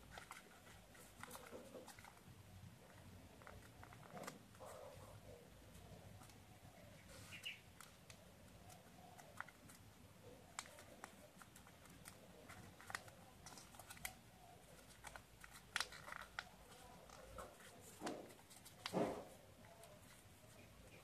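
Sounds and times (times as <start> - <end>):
paper crinkling and clicking: 0.0 - 4.7, 7.7 - 21.0.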